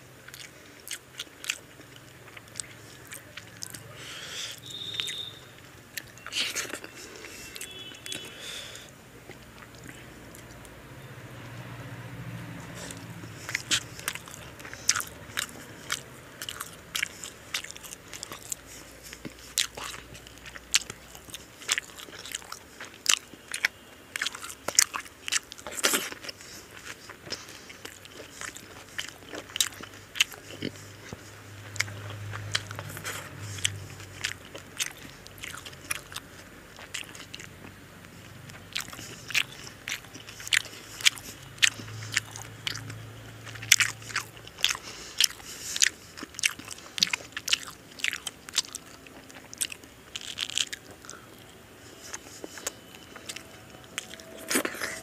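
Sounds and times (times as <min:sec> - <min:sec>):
close chewing with mouth clicks: 0:00.0 - 0:55.0
faint low hum: 0:00.0 - 0:55.0.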